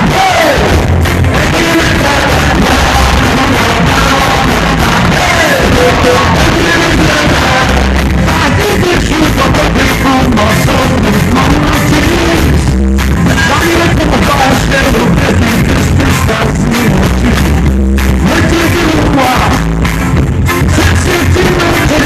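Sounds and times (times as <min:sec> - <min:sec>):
person singing: 0:00.0 - 0:19.8, 0:20.5 - 0:22.0
live reggae band playing: 0:00.0 - 0:22.0.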